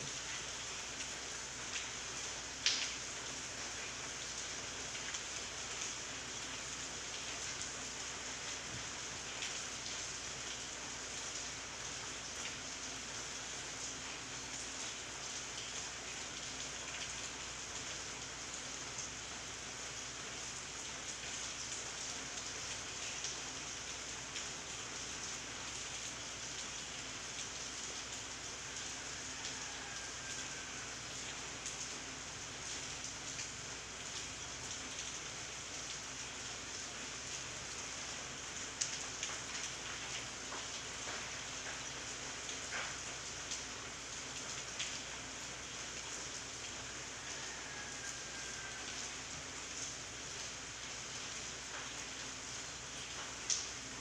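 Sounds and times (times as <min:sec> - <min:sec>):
rain falling on shrubs: 0:00.0 - 0:54.0.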